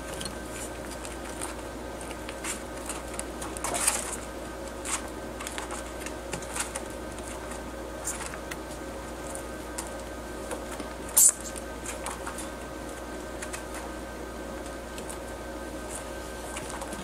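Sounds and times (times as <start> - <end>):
background hum: 0.0 - 17.0
small animals chewing and rustling: 0.0 - 17.0.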